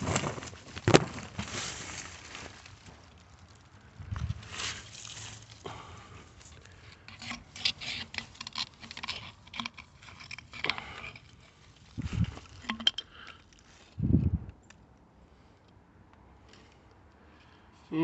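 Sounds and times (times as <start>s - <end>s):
digging in soil with glass: 0.0s - 15.6s.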